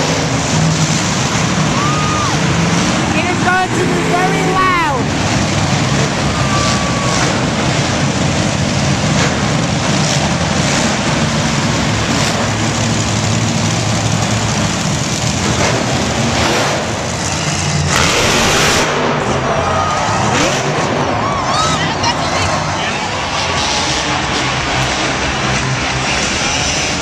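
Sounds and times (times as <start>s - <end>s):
loud engines running: 0.0s - 27.0s.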